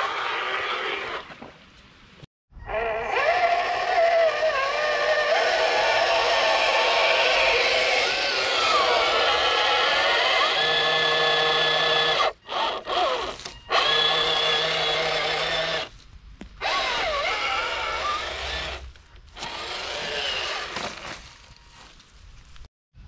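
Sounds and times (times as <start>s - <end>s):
electric motor and gearbox whining: 2.9s - 22.7s.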